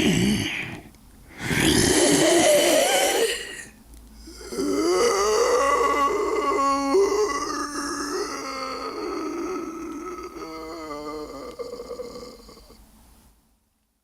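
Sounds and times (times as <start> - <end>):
person groaning like a zombie: 0.0 - 12.8.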